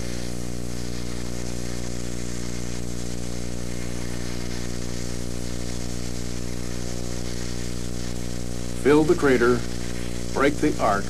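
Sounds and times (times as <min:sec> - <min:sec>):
welding arc hissing: 0:00.0 - 0:11.0.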